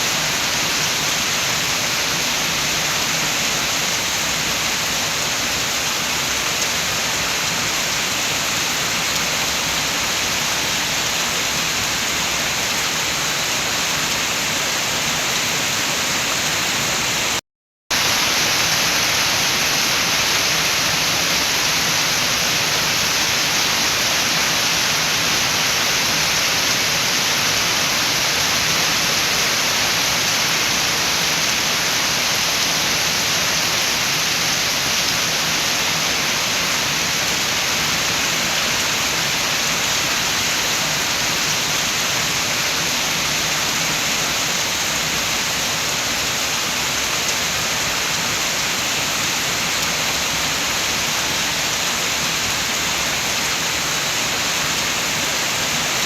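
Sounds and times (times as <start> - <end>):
steady rain with wind: 0.0 - 56.0.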